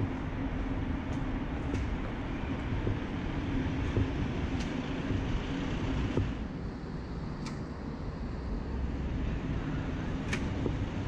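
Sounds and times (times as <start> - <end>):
city street traffic rumble: 0.0 - 11.0
low engine hum: 0.0 - 11.0.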